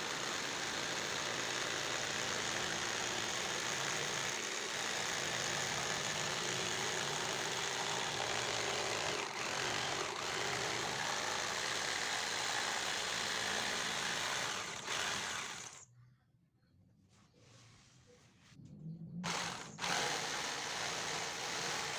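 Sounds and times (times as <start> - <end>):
circular saw whining: 0.0 - 15.9, 19.2 - 21.9.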